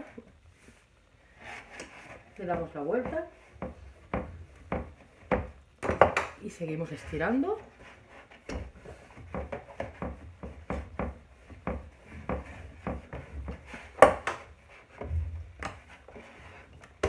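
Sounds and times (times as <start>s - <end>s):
rolling pin on wooden board: 1.4s - 17.0s.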